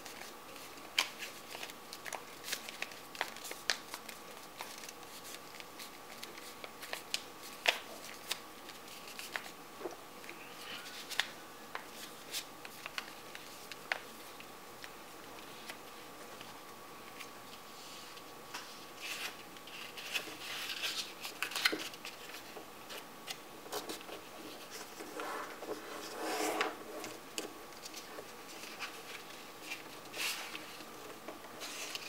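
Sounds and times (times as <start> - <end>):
paper folding and rustling: 0.0 - 32.0.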